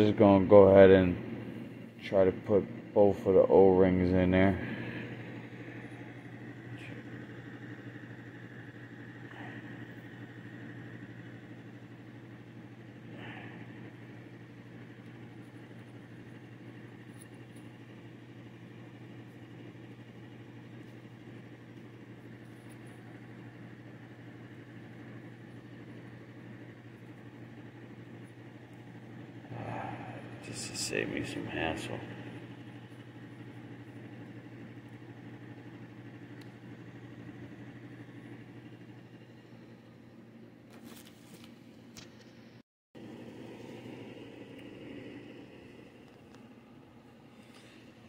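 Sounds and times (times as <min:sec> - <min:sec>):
low mechanical hum: 0:00.0 - 0:48.0.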